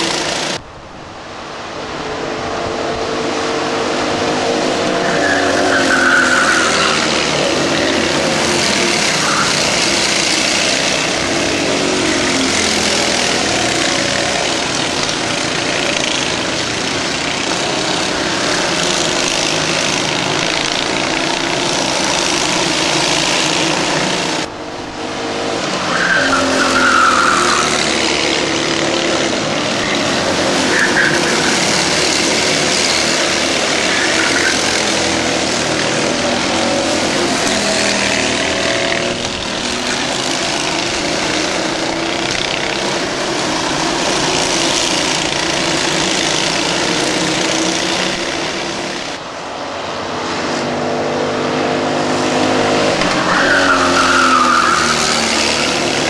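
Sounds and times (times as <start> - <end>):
racing kart engines: 0.0 - 56.0
tyres squealing: 4.2 - 24.5, 25.5 - 49.2, 52.6 - 56.0.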